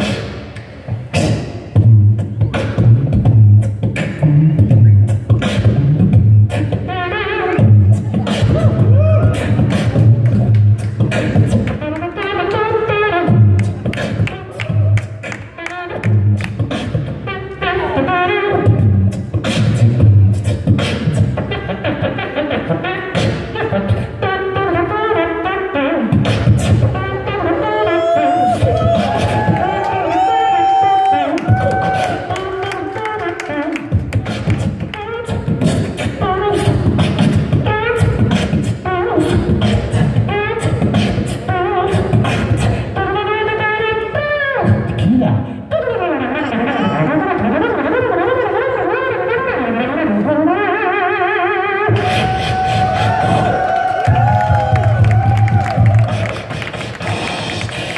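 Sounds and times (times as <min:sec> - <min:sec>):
beatboxing into microphone: 0:00.0 - 0:57.9
wavering pitched vocal line: 0:00.0 - 0:57.9.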